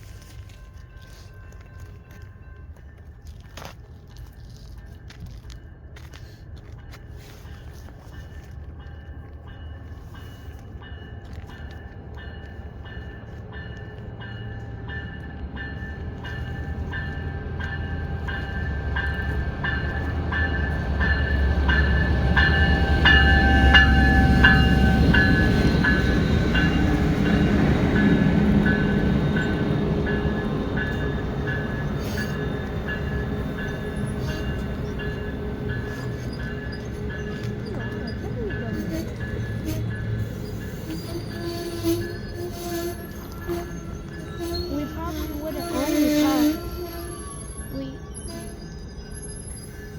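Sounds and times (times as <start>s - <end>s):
crossing bell ringing: 0.0s - 49.9s
freight train rumble: 0.0s - 49.9s.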